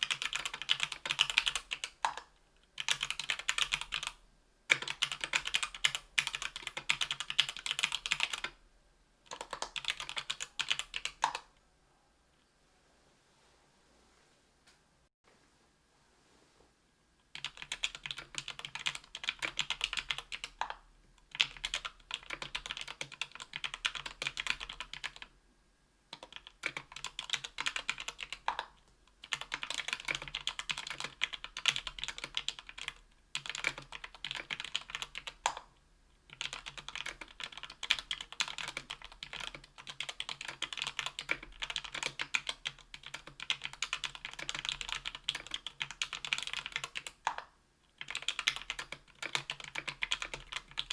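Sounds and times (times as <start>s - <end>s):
mechanical keyboard typing: 0.0s - 8.5s, 9.3s - 11.5s, 17.3s - 25.3s, 26.1s - 35.7s, 36.3s - 50.9s.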